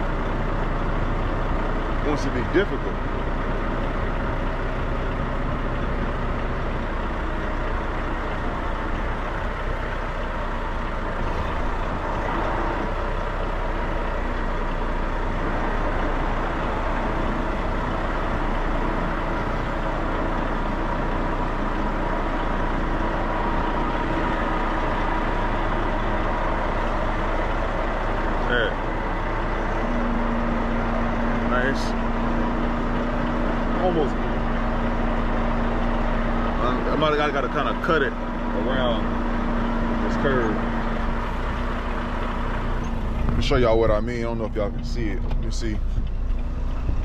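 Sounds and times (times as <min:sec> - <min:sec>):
diesel truck engine running: 0:00.0 - 0:47.0.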